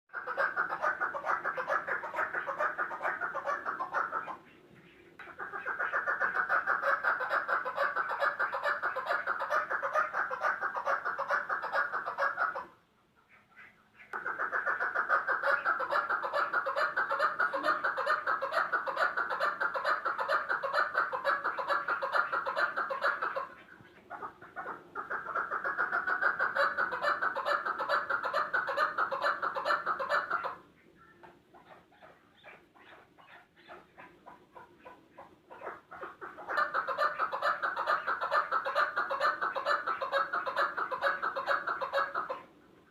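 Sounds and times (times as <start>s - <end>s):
partridge clucking calls: 0.1s - 42.9s.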